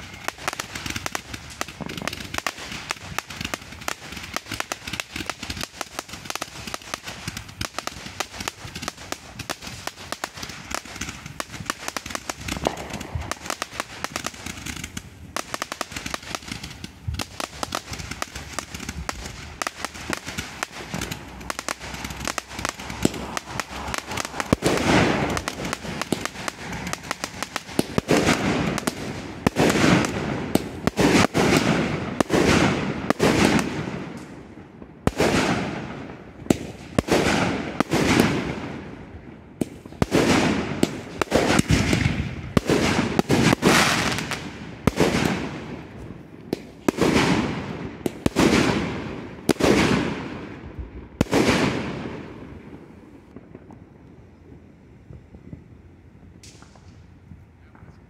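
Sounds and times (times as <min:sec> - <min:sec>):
fireworks launching and bursting: 0:00.0 - 0:54.0, 0:55.6 - 0:58.0.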